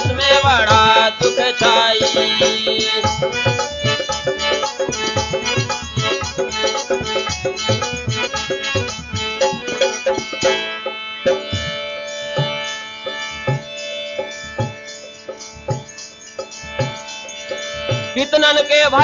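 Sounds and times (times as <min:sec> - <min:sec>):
folk melody of quick notes: 0:00.0 - 0:19.0.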